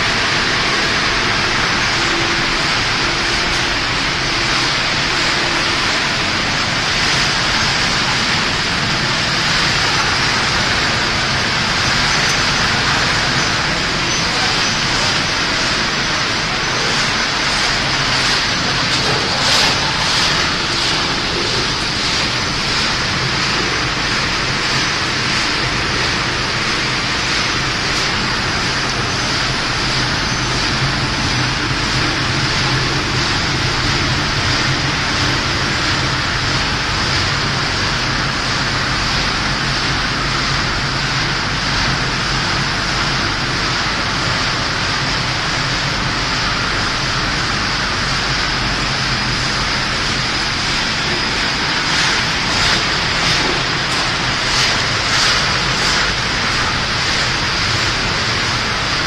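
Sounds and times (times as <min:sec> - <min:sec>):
loud steady machinery hiss: 0:00.0 - 0:59.0
low machinery hum: 0:00.0 - 0:59.0.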